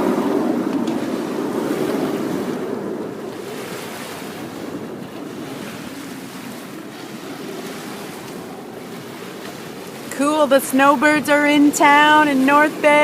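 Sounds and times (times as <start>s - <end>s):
jet engines passing by: 0.0s - 13.0s.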